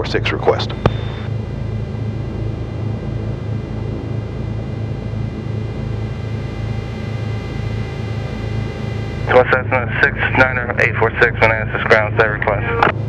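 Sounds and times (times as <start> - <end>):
twin aircraft engines idling: 0.1 - 12.9.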